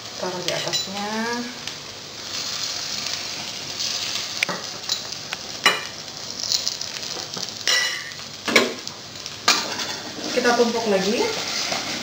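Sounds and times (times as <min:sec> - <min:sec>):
egg sizzling in a pan: 0:00.0 - 0:12.0.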